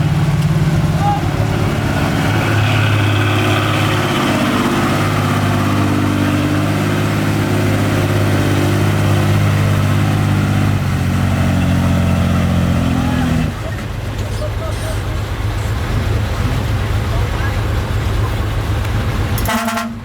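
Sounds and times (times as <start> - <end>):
heavy machinery diesel engine running: 0.0 - 20.0.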